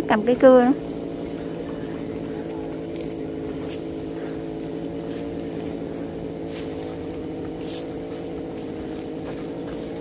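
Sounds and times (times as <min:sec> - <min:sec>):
chainsaw engine running: 0:00.0 - 0:10.0.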